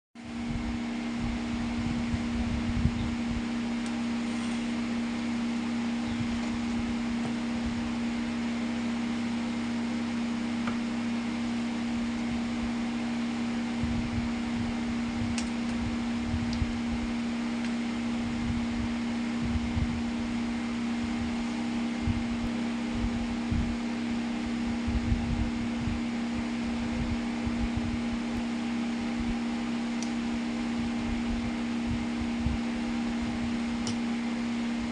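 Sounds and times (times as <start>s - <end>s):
low air buffeting: 0.2s - 29.5s
fan motor hum: 0.2s - 34.9s.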